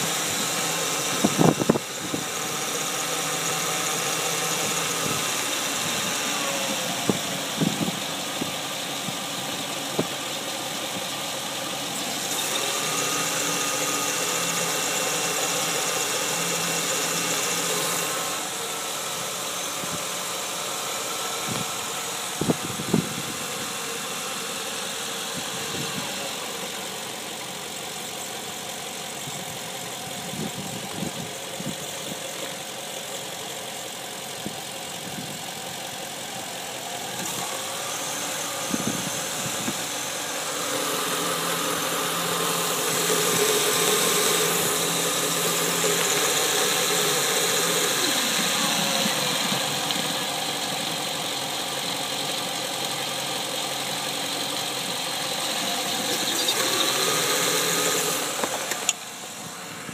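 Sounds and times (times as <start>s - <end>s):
car engine running: 0.0s - 59.9s
power steering pump whine: 0.0s - 59.9s.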